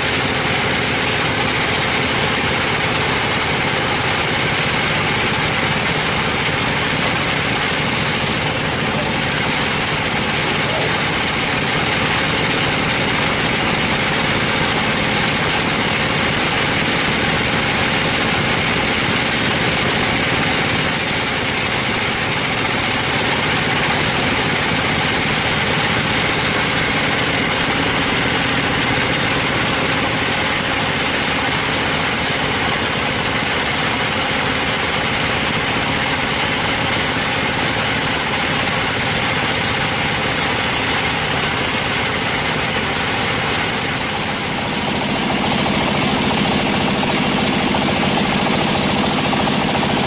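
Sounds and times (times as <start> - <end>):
sawmill machinery drone and hiss: 0.0 - 50.0.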